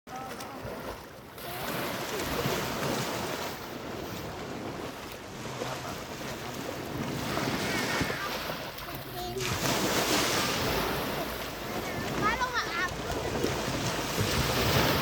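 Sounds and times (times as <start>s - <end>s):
sea waves washing on shore: 0.1s - 15.0s.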